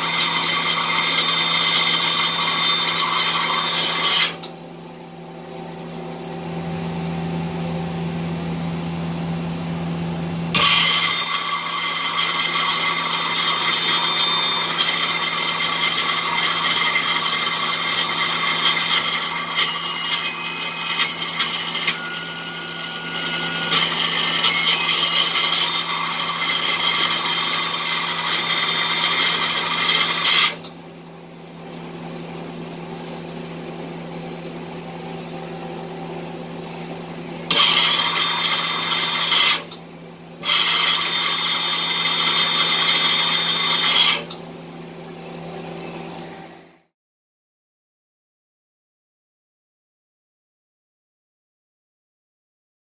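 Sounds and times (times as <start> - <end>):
lathe running hum: 0.0 - 46.9
motor spinning up whine: 0.0 - 46.9.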